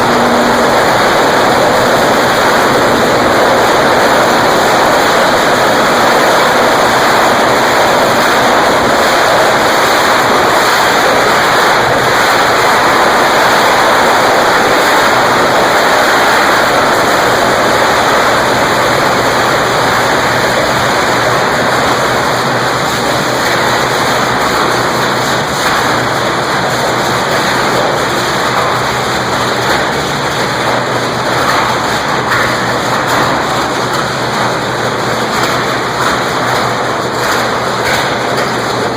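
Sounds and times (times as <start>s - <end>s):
electric arc furnace crackling: 0.0s - 38.9s.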